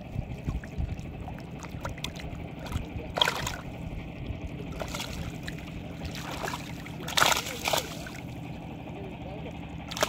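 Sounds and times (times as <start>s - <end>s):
water splashes: 0.0s - 8.5s
shallow water sloshing and trickling: 0.0s - 10.0s.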